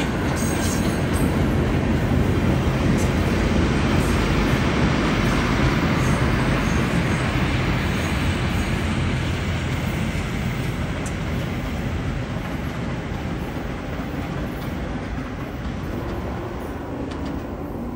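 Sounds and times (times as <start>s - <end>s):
train wheels rumbling on track: 0.0s - 17.9s.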